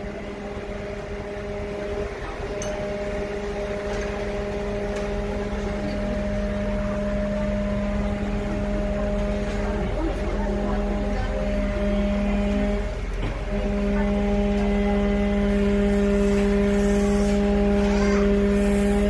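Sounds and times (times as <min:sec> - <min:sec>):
fire truck engine droning: 0:00.0 - 0:19.0.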